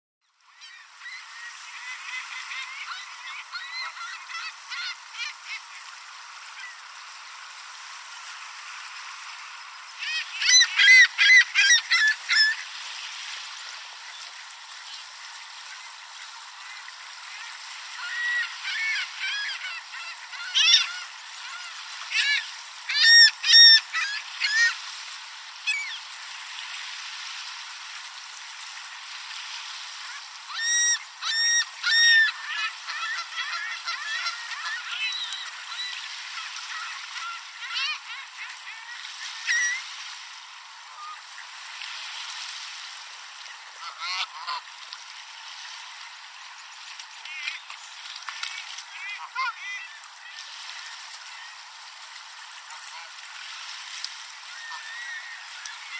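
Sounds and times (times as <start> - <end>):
gulls and geese calling: 0.4 - 7.7, 9.5 - 27.6, 29.8 - 41.8, 43.2 - 45.0, 45.8 - 55.9
lapping water: 0.8 - 55.9.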